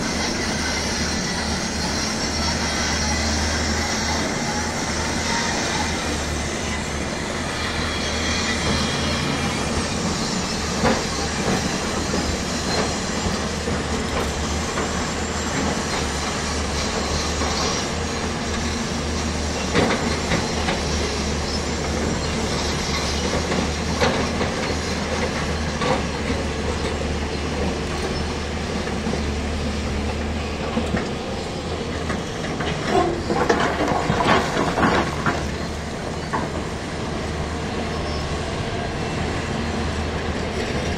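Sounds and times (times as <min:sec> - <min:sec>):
diesel engines droning: 0:00.0 - 0:40.9.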